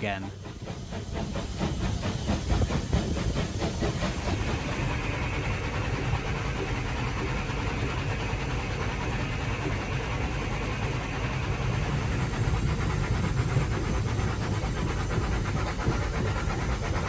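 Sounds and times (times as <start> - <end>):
steam hiss: 0.0 - 17.0
steam locomotive exhaust beats: 0.0 - 17.0.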